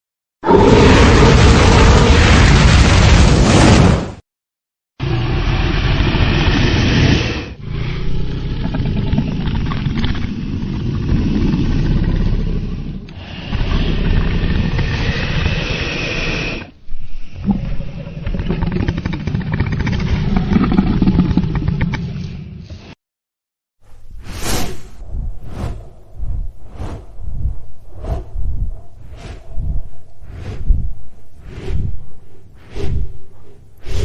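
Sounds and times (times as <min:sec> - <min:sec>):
deep rough dragon growls: 0:00.4 - 0:03.2, 0:05.0 - 0:23.0, 0:25.0 - 0:34.0.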